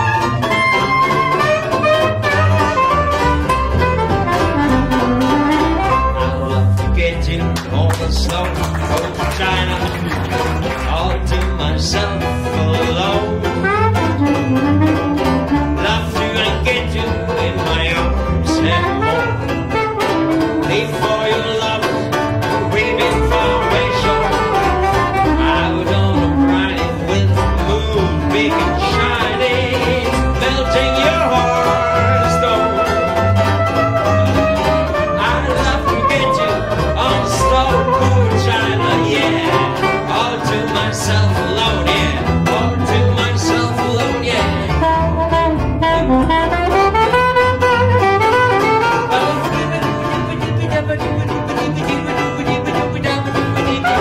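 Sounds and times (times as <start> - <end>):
banjo solo: 0.0 - 54.0
plucked double bass: 0.0 - 54.0.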